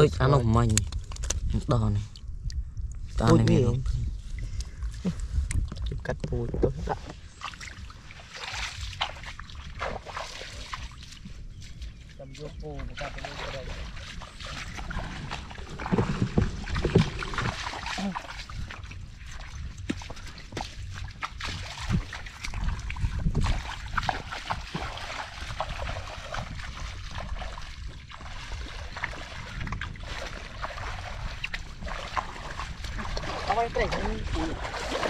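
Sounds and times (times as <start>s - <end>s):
water sloshing and splashing: 2.9s - 35.0s.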